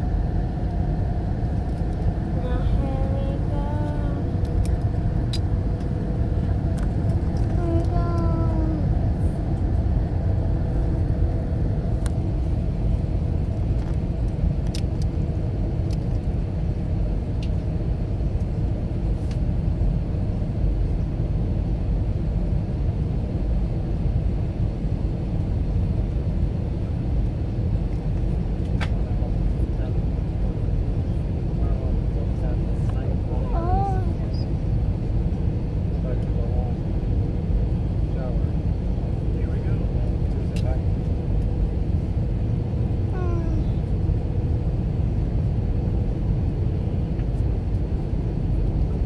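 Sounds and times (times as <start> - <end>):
aircraft cabin roar: 0.0 - 49.0
steady cabin hum: 0.0 - 49.0.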